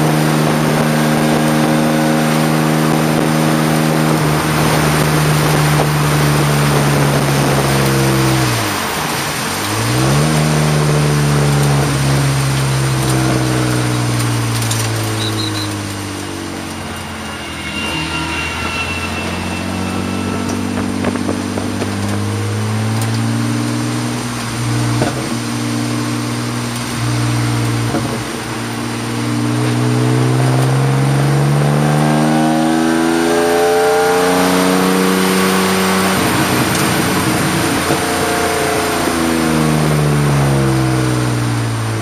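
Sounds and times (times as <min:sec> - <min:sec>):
race car engine from inside cabin: 0:00.0 - 0:42.0.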